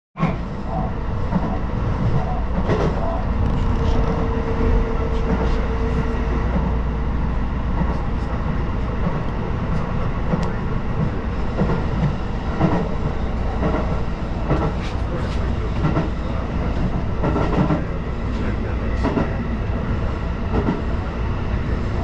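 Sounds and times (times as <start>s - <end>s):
train rumbling on track: 0.2s - 22.0s.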